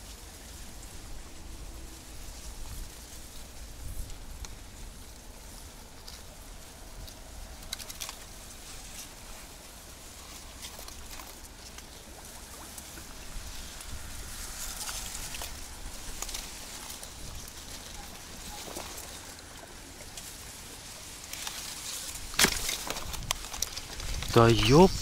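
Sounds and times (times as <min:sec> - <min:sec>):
rustling with light clicks: 0:00.0 - 0:24.8.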